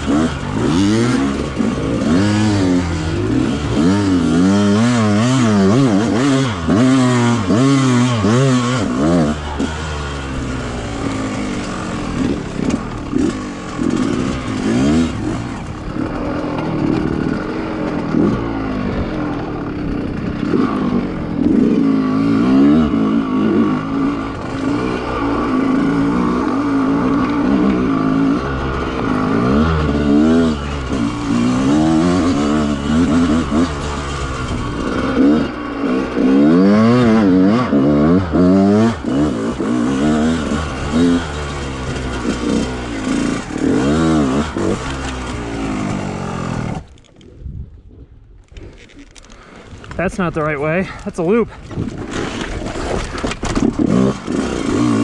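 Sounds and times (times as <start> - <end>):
dirt bike engine revving: 0.0 - 47.0, 50.0 - 55.0.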